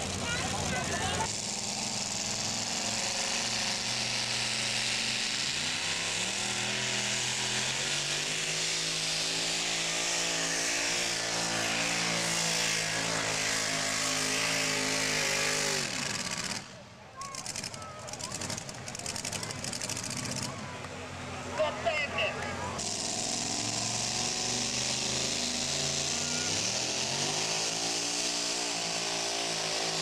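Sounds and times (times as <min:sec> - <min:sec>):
supercharged truck engine at full throttle: 0:00.0 - 0:30.0.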